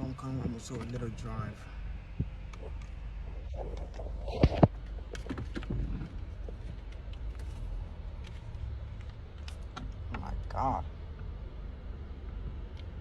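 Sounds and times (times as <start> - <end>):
car cabin engine rumble: 0.0 - 13.0.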